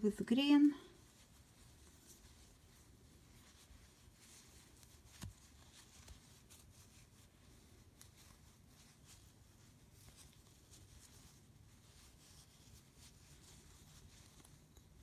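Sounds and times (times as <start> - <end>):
crochet hook and yarn rustling: 0.0 - 15.0.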